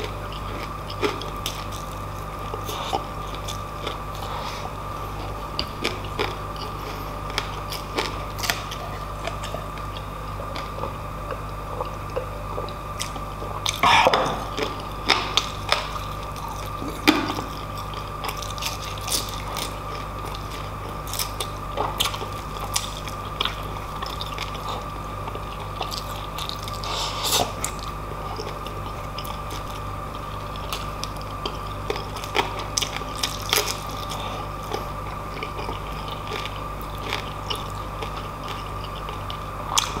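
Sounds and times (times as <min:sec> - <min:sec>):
person chewing food: 0:00.0 - 0:40.0
steady background hum: 0:00.0 - 0:40.0.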